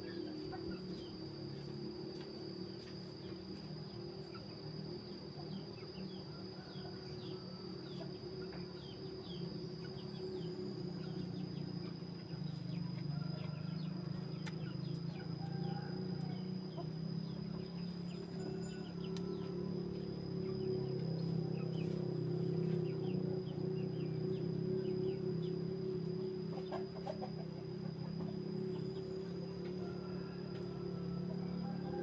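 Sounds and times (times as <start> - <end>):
steady low hum: 0.0 - 32.0
thin high whine: 0.0 - 32.0.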